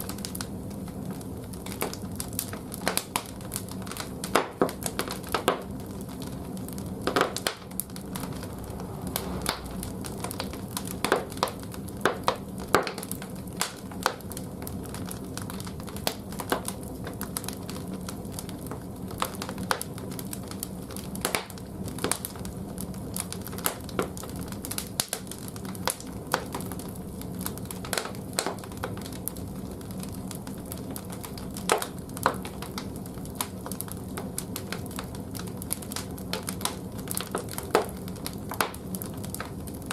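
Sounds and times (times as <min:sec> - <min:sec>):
firewood popping and crackling: 0:00.0 - 0:39.9
low fire hum: 0:00.0 - 0:39.9.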